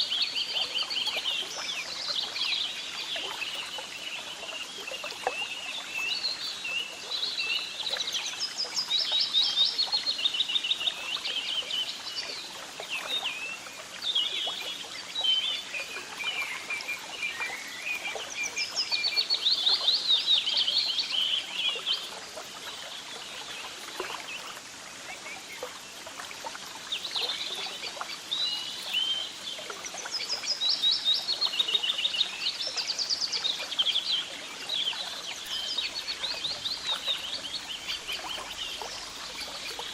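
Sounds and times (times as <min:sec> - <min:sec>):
songbirds singing: 0:00.0 - 0:25.5, 0:26.5 - 0:39.9
faint outdoor hiss: 0:00.0 - 0:39.9.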